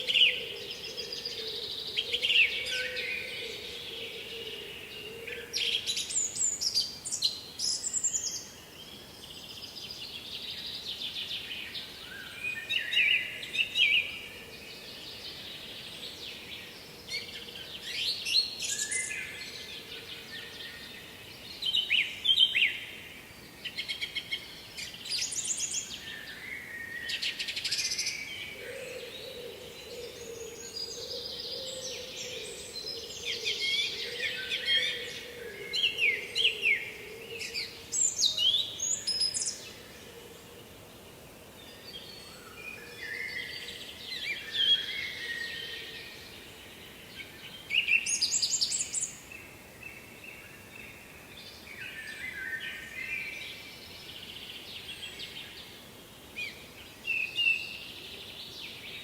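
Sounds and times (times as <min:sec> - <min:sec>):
low steady hiss: 0:00.0 - 0:59.0
songbirds chirping and trilling: 0:00.0 - 0:59.0.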